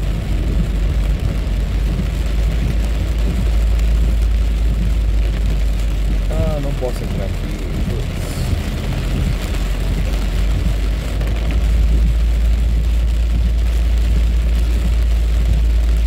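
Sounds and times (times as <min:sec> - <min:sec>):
engine and road rumble: 0:00.0 - 0:16.0
rain hissing on windshield: 0:00.0 - 0:16.0.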